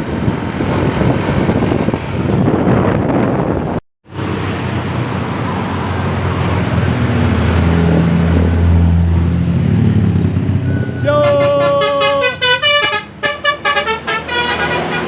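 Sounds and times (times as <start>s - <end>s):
bus diesel engine droning: 0.0s - 15.0s
road traffic noise: 0.0s - 15.0s.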